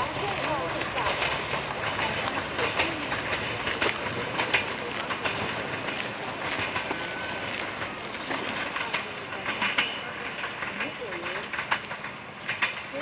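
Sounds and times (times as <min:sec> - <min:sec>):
train rolling noise: 0:00.0 - 0:13.0
train wheels clicking over rail joints: 0:00.0 - 0:13.0.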